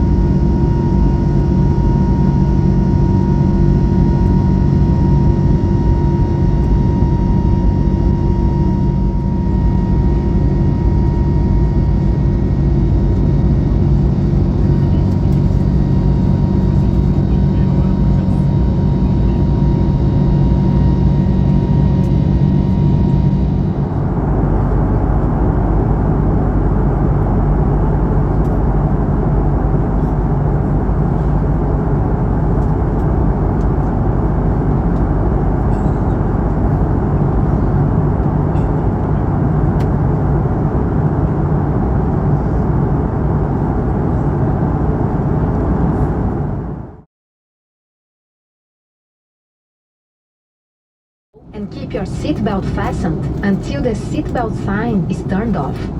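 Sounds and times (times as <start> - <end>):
jet engine cabin noise: 0.0 - 47.1, 51.4 - 55.9.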